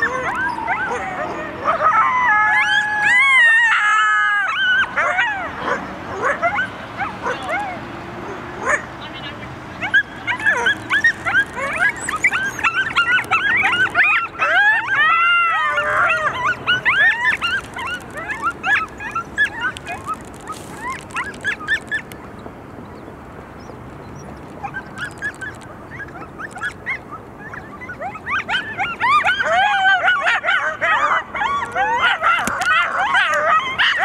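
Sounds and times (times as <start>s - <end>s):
coyotes yipping and howling: 0.0s - 22.4s, 23.6s - 34.0s.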